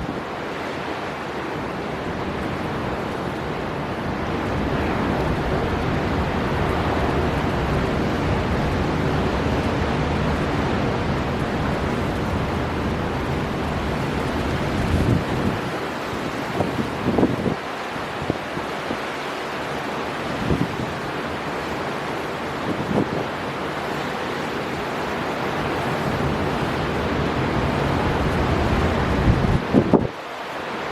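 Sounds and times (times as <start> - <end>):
heavy surf breaking: 0.0 - 30.9
storm wind: 0.0 - 30.9.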